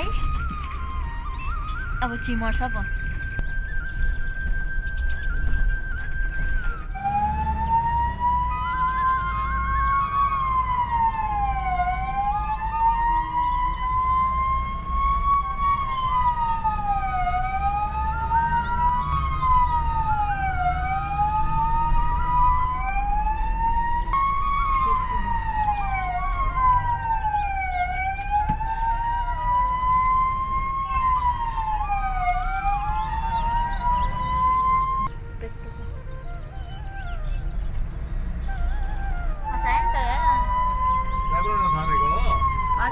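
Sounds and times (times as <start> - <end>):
ambulance siren wailing: 0.0 - 42.9
engine and road rumble: 0.0 - 42.9.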